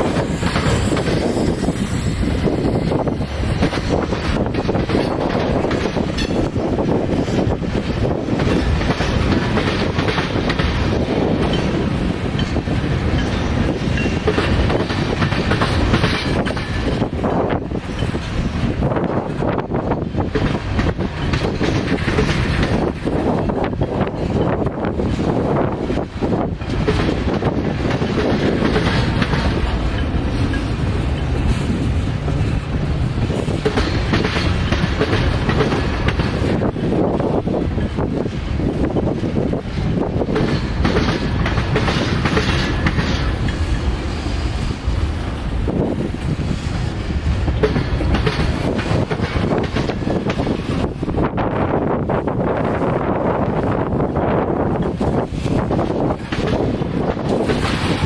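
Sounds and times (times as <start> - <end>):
train knocks and clanks: 0.0 - 58.0
train wheels rumbling on rail: 0.0 - 58.0.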